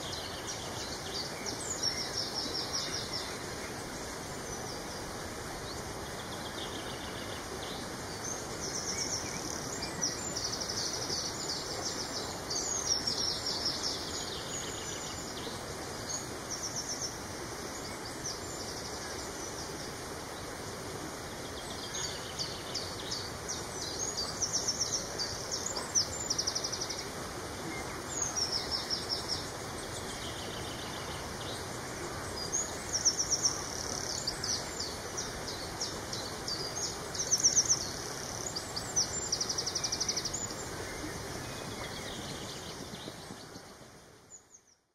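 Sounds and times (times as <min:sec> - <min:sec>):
outdoor background hiss: 0:00.0 - 0:44.9
songbirds trilling and chirping: 0:00.0 - 0:44.9.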